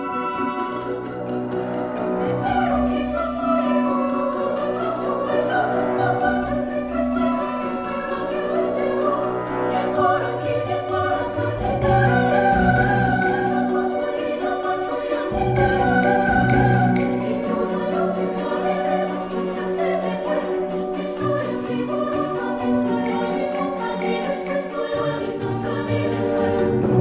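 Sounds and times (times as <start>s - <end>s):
choir-like voices: 0.0s - 27.0s
slow orchestral music: 0.0s - 27.0s.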